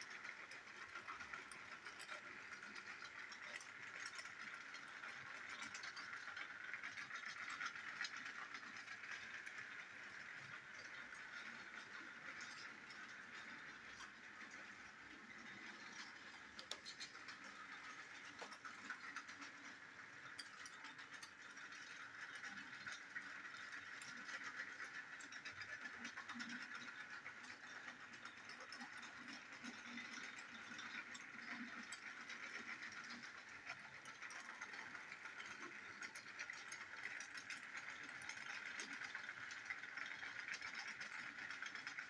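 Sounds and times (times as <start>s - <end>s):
toy train motor whirring: 0.0s - 42.0s
wheels clicking rattle: 0.0s - 42.0s.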